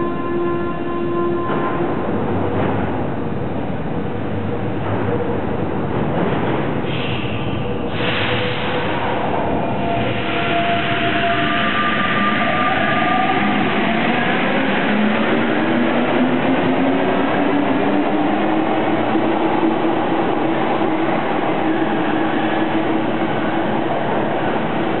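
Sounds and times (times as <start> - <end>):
train running gear rumble: 1.3 - 25.0.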